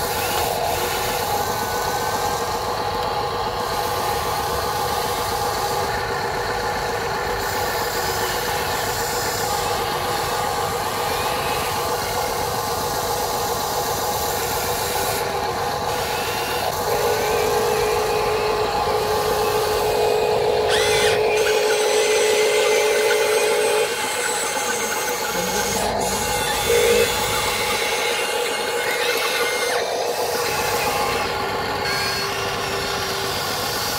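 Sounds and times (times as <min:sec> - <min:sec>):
electric gear motors whining: 0:00.0 - 0:33.9.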